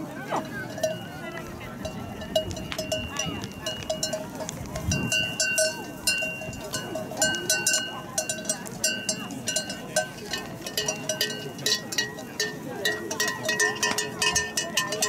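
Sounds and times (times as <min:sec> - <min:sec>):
sheep bells clanking: 0:00.0 - 0:15.0
differently pitched bell: 0:00.4 - 0:15.0.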